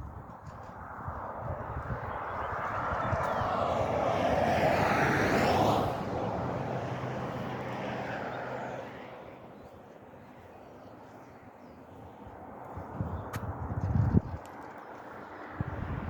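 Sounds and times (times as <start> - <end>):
vehicle passing by: 0.6 - 11.3, 12.2 - 16.0.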